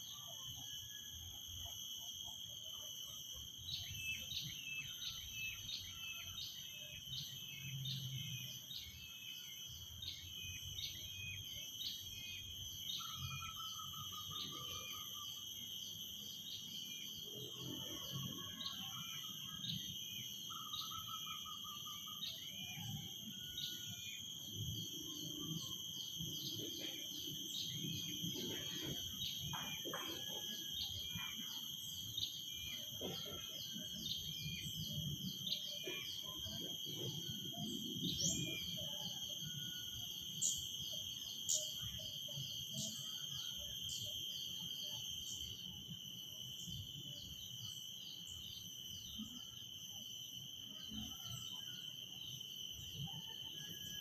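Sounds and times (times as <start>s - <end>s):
cicadas droning: 0.0s - 54.0s.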